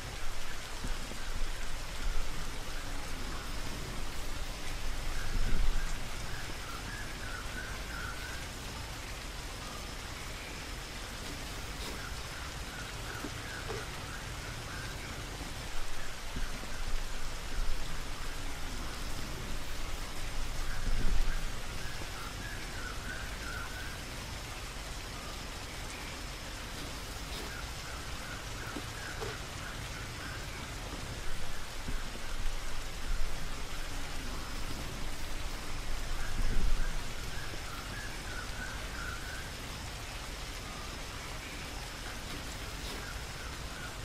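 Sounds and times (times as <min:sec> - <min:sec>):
outdoor hiss: 0:00.0 - 0:44.0.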